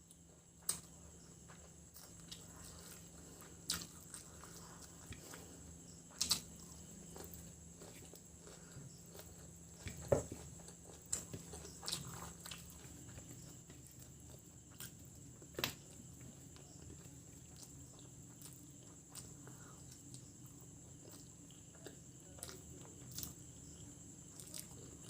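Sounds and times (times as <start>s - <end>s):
faint steady hum: 0.0s - 25.0s
soft chewing: 0.0s - 25.0s.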